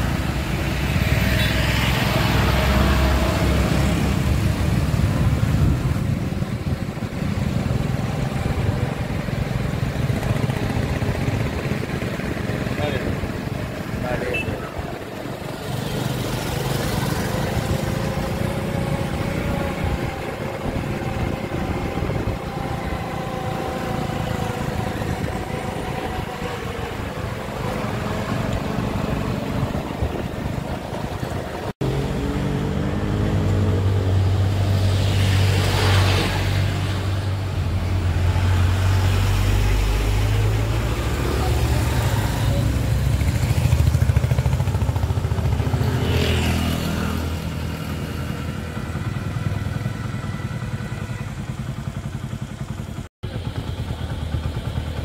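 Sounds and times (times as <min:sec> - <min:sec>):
road noise: 0:00.0 - 0:55.0
vehicle engine: 0:00.0 - 0:55.0.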